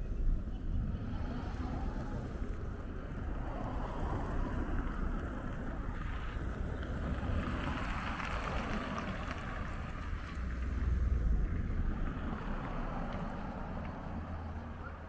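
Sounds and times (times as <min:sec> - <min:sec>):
cars driving past: 0:00.0 - 0:15.0
wind rumble on microphone: 0:00.0 - 0:15.0.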